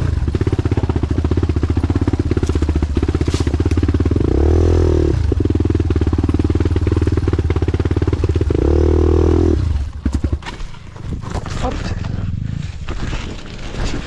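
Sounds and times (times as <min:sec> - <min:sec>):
motorcycle engine chugging: 0:00.0 - 0:12.6.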